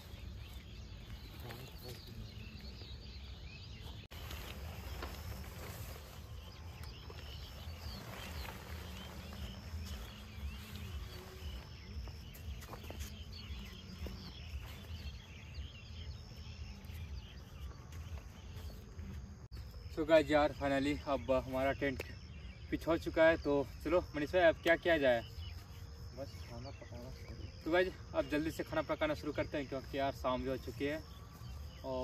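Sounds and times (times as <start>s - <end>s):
birds calling: 0.0s - 32.0s
insects chirping: 0.0s - 32.0s.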